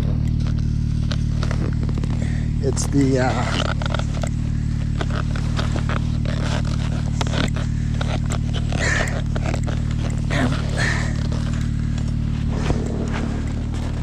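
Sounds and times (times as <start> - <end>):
engine idling hum: 0.0 - 14.0
scraping and rustling: 0.3 - 14.0.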